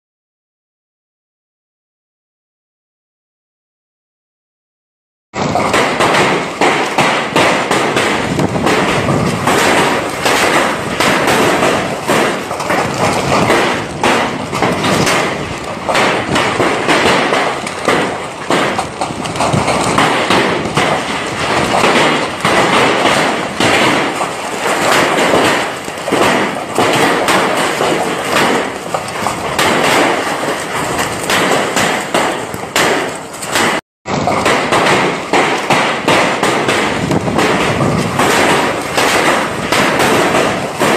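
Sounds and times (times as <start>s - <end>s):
crackling thuds: 5.4s - 40.9s
gusting wind: 5.4s - 40.9s
heavy rain: 5.4s - 40.9s.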